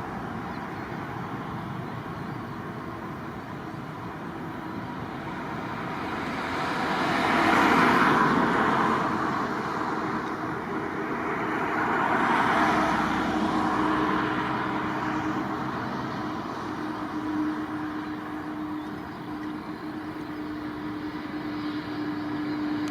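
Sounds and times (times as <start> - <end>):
steady background noise: 0.0 - 22.9
vehicles passing: 0.0 - 22.9.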